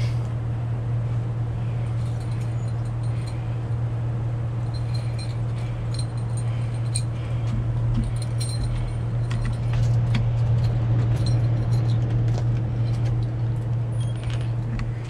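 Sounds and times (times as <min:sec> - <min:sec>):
faint clicks and jingles: 0:01.6 - 0:15.0.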